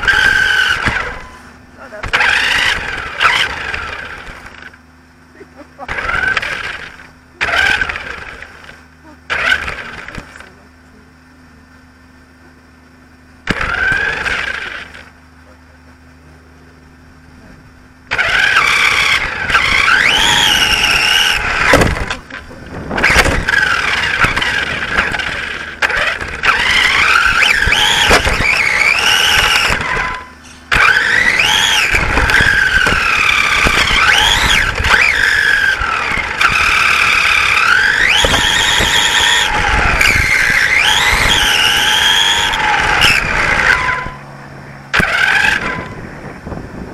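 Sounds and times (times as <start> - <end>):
rc car motor whining: 0.0 - 4.8, 5.7 - 10.7, 13.4 - 15.2, 18.0 - 46.9.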